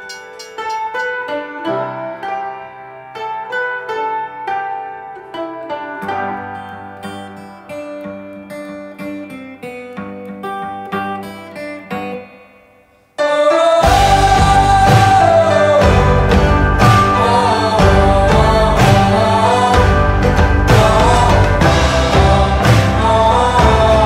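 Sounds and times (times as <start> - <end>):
plucked string music: 0.0 - 12.5, 13.2 - 24.0.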